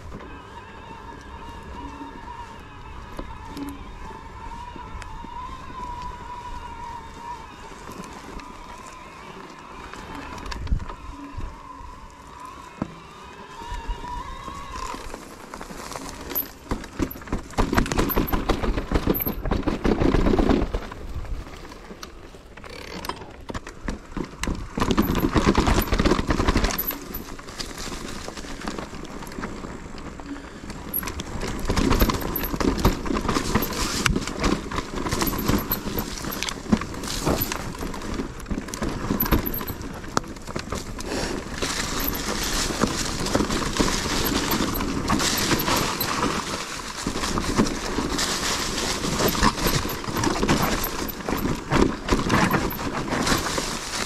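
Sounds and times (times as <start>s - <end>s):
bike rattling: 0.0s - 54.0s
bike tyres crunching on stones: 0.0s - 54.0s.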